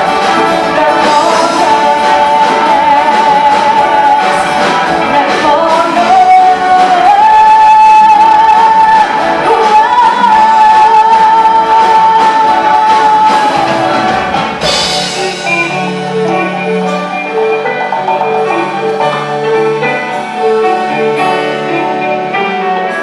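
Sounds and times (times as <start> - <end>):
instrumental accompaniment: 0.0 - 23.0.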